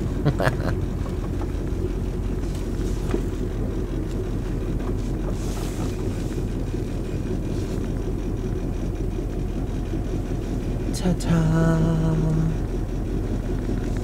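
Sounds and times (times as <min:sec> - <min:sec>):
engine droning from inside cab: 0:00.0 - 0:14.0.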